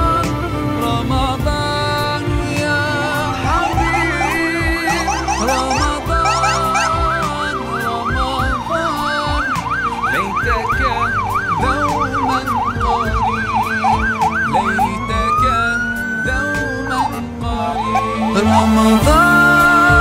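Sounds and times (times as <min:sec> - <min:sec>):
siren slow rising wail: 0:01.5 - 0:20.0
police siren yelping: 0:02.7 - 0:20.0.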